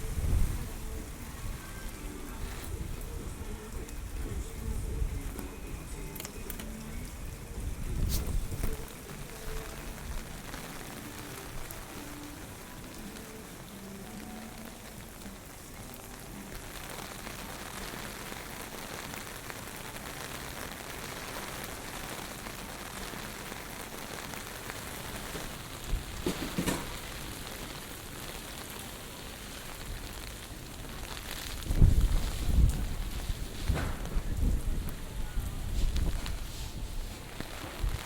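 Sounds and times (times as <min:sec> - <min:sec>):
heavy rain on hard surfaces: 0:00.0 - 0:38.0.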